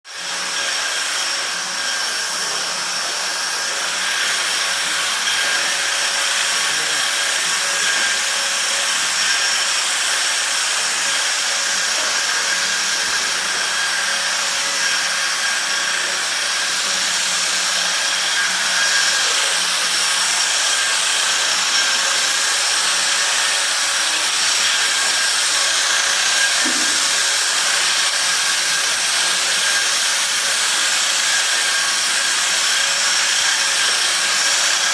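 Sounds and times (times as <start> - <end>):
electric sander running: 0.1 - 34.9.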